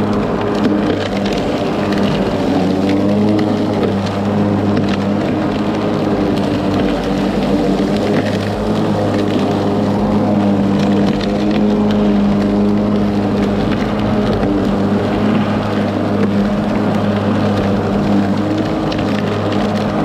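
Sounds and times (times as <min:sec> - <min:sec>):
electric lawn mower running: 0:00.0 - 0:20.0.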